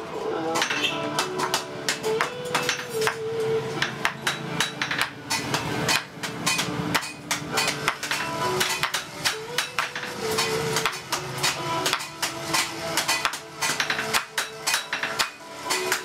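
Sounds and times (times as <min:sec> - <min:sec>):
hammers striking metal: 0:00.5 - 0:16.0.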